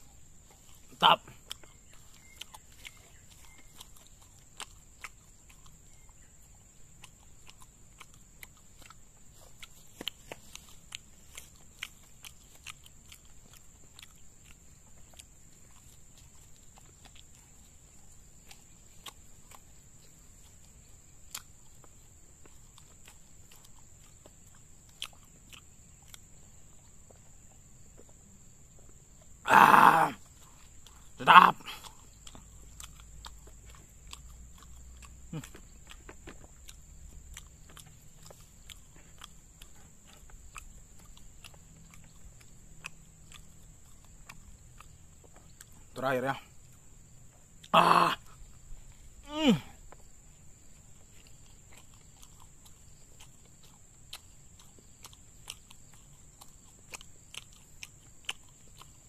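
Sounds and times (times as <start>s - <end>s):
chewing and mouth sounds: 0.0s - 59.0s.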